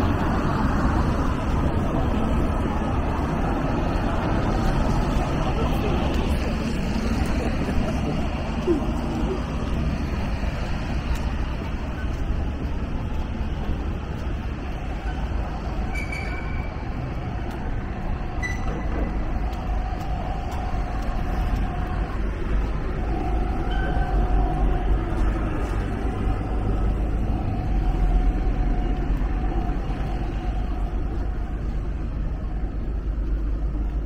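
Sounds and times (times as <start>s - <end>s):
droning engine: 0.0s - 34.0s
traffic rumble: 0.0s - 34.0s.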